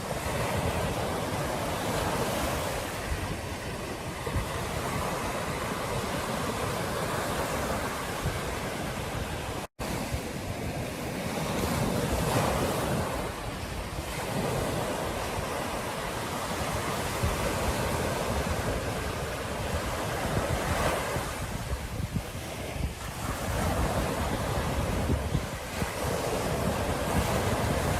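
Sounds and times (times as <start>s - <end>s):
ocean surf on beach: 0.0s - 27.9s
wind buffeting microphone: 0.0s - 27.9s.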